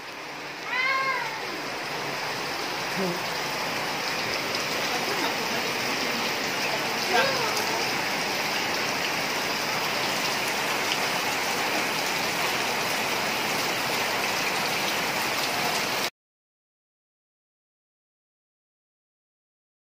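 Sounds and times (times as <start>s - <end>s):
rain falling on water: 0.0s - 16.1s.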